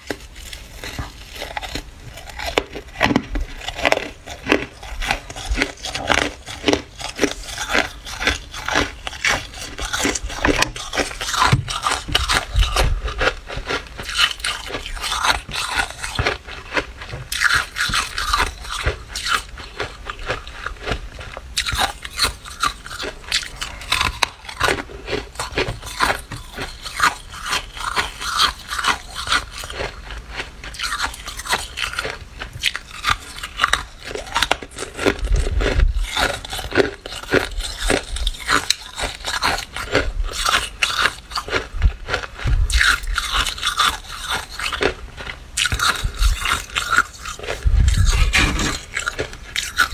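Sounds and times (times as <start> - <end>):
frost crunching and scraping: 0.0 - 49.9.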